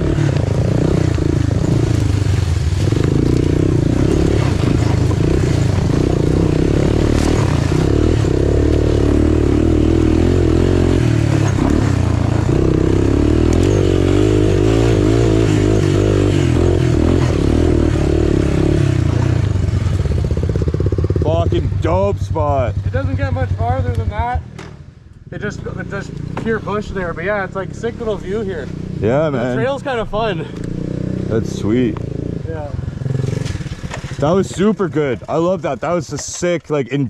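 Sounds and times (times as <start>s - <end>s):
off-road engine under load: 0.0s - 37.0s.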